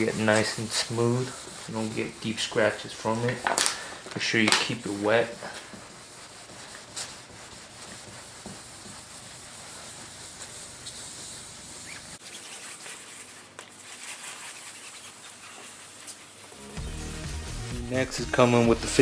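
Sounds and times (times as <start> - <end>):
sandpaper rubbing on plastic: 0.0 - 3.5, 4.2 - 19.0.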